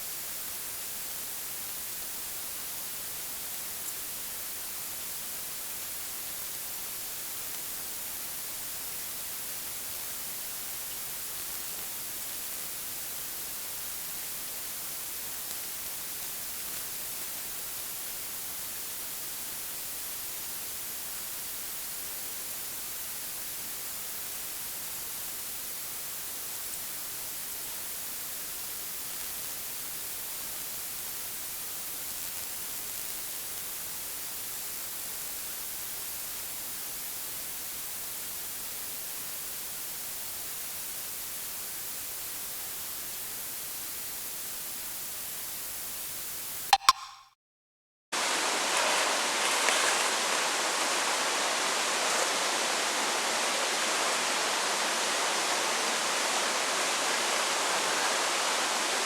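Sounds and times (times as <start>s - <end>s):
steady high hiss: 0.0s - 46.7s, 48.2s - 59.0s.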